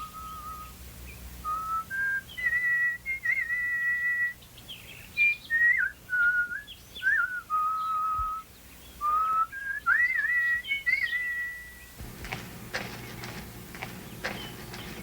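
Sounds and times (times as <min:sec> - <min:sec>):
bird chirps and warbles: 0:00.0 - 0:12.0, 0:12.9 - 0:15.0
whistled bird song: 0:00.0 - 0:12.0, 0:13.8 - 0:15.0.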